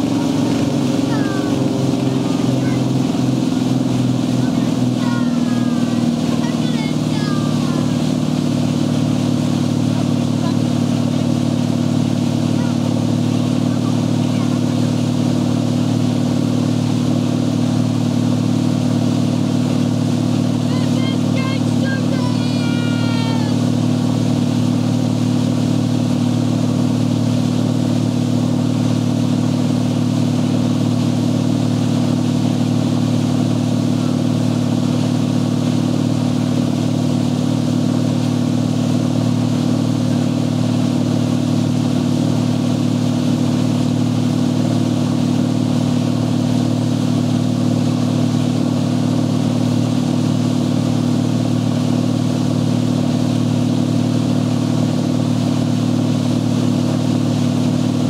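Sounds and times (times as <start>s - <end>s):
boat engine droning: 0.0s - 58.0s
water rushing: 0.0s - 58.0s.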